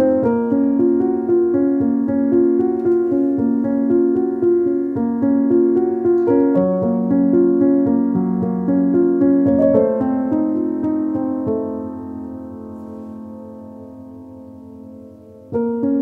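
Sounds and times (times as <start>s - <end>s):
keyboard music with held notes: 0.0s - 16.0s.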